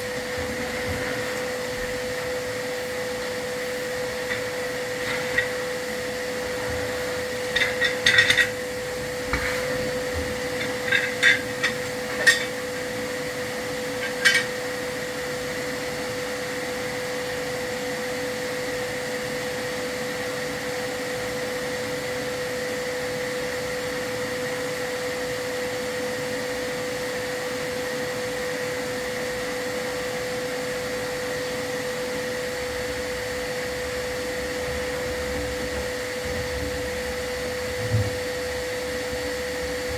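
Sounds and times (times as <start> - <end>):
vacuum cleaner humming: 0.0 - 39.9.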